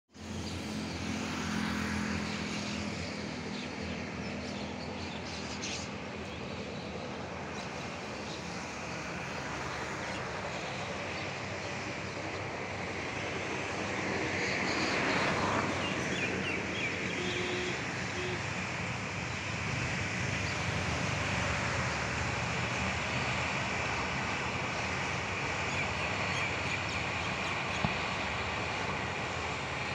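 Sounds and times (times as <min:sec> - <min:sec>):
propeller airliner engines droning: 0:00.1 - 0:29.9.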